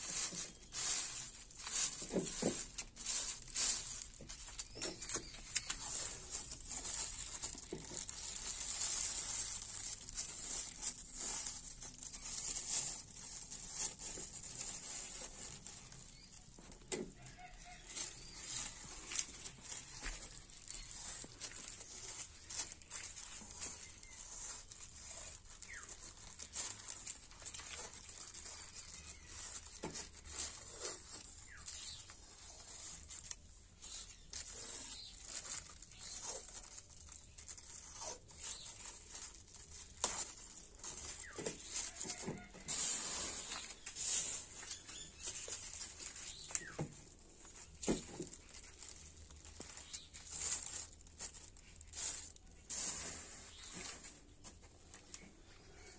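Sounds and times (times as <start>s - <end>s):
plastic bag crinkling: 0.0s - 55.9s.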